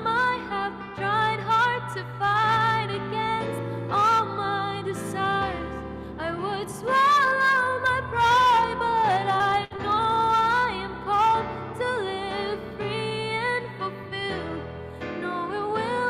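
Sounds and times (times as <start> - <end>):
woman singing slow song: 0.0 - 16.0.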